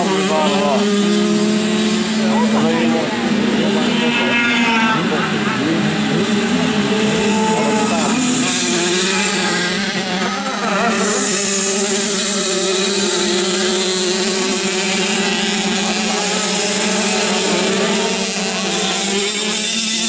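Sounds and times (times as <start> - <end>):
small motorcycle engines buzzing: 0.0 - 20.0.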